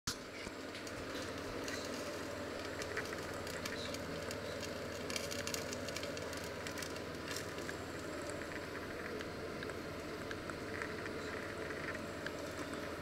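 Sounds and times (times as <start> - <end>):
low hum: 0.1 - 13.0
water boiling in a pot: 0.1 - 13.0.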